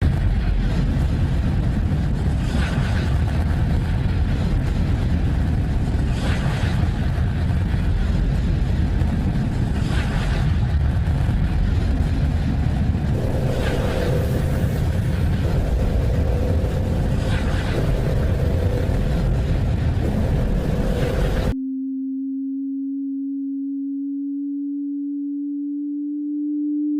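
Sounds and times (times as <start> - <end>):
deep rumble: 0.0 - 26.9.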